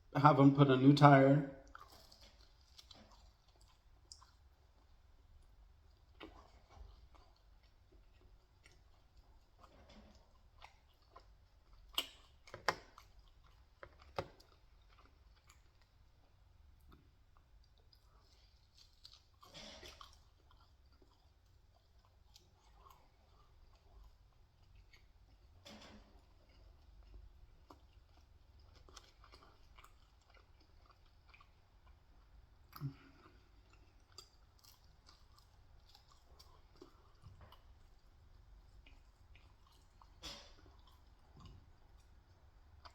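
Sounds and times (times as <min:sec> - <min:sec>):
person chewing pizza: 0:01.6 - 0:42.9.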